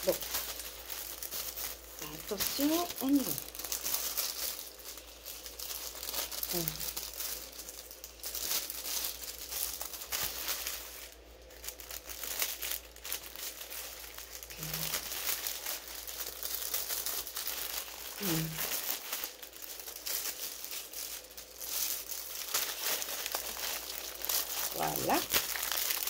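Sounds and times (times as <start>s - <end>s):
plastic bag crinkling: 0.0s - 26.0s.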